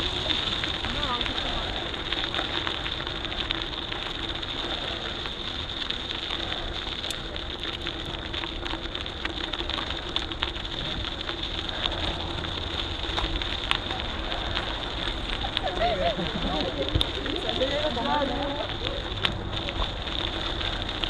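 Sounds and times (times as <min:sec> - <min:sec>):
crackles and clicks: 0:00.0 - 0:21.0.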